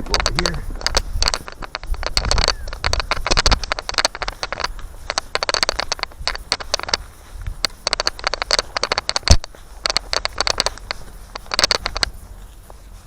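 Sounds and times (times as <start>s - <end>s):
crunching footsteps: 0.0s - 13.0s.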